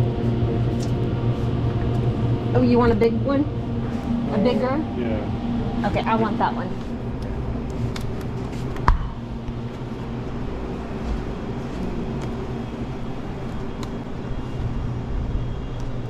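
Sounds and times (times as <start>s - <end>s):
drink coolers humming: 0.0s - 16.0s.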